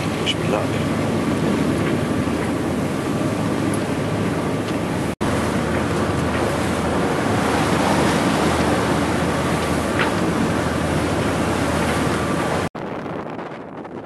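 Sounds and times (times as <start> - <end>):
low engine drone: 0.0 - 14.0
water rushing along hull: 0.0 - 14.0
wind buffeting microphone: 0.0 - 14.0.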